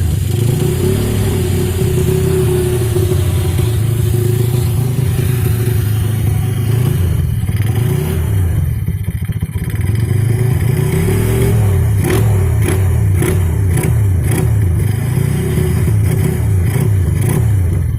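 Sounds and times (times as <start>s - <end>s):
exhaust popping: 0.0s - 17.9s
motorcycle engine revving: 0.0s - 17.9s.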